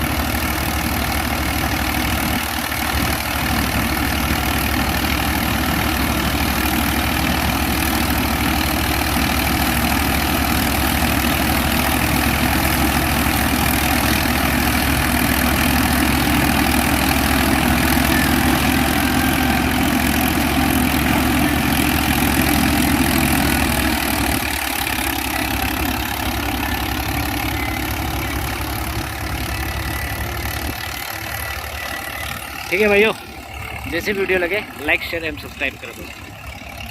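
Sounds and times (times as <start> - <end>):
combine harvester droning: 0.0 - 36.9.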